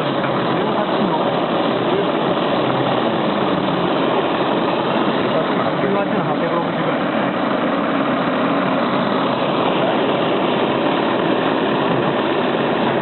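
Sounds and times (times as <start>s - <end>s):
stirling engine clattering: 0.0s - 13.0s.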